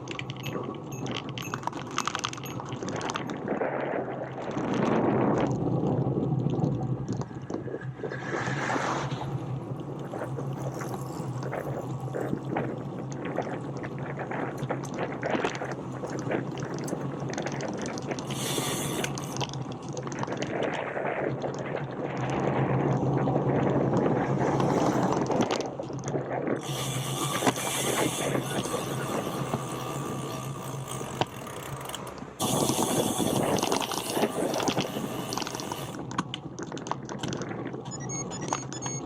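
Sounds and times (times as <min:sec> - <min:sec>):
bicycle tyre and road noise: 0:00.0 - 0:39.0.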